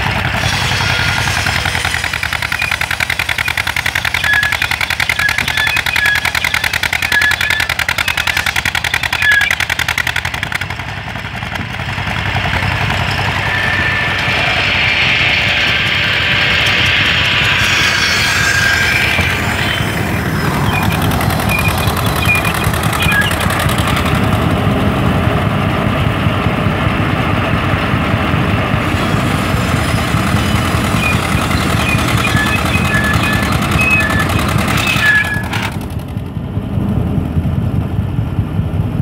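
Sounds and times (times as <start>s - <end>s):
stationary engine running: 0.0s - 39.0s.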